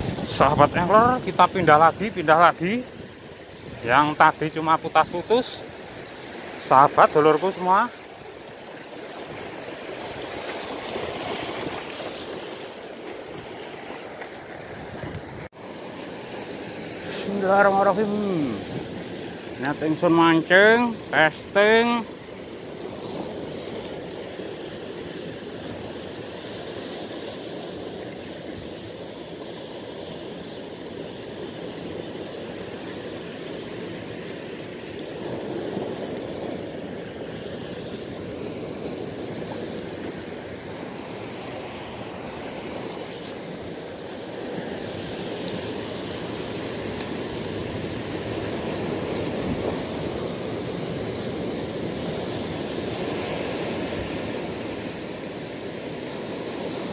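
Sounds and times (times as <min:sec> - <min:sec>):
surf breaking over rocks: 0:00.0 - 0:56.9.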